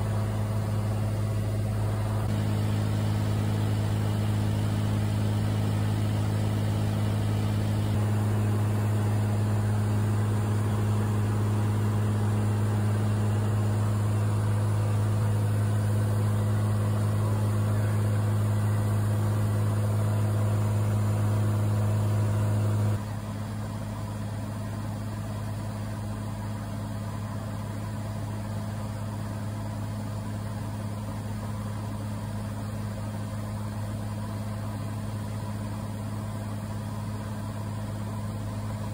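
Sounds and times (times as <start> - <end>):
aircraft engine droning in cabin: 0.0 - 38.9.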